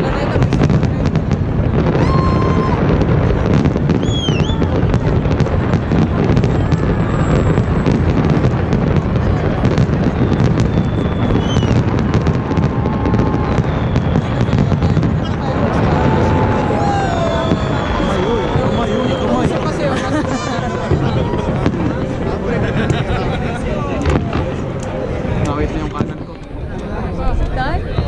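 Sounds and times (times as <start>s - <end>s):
fireworks whistling: 0.0s - 26.2s
fireworks crackling and banging: 0.0s - 28.0s.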